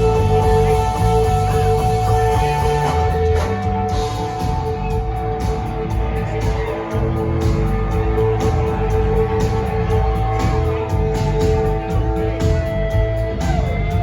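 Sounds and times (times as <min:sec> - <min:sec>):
bass line: 0:00.0 - 0:14.0.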